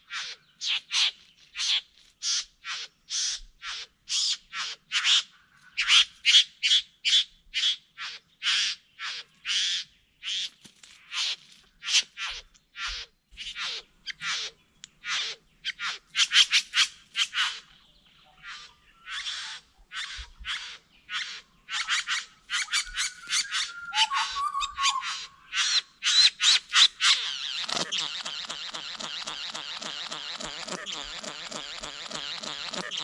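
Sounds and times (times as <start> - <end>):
bird rasping buzzy calls: 0.0 - 6.2, 7.6 - 17.7, 18.4 - 33.0.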